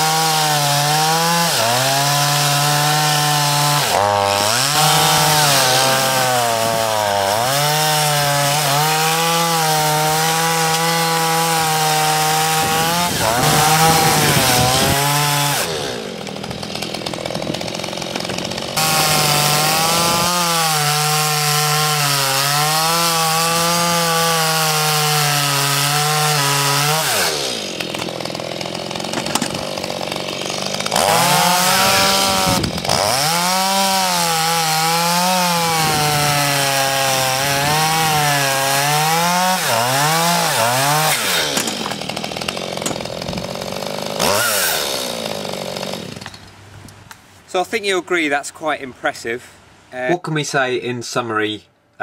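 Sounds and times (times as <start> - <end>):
chainsaw cutting logs: 0.0 - 47.5.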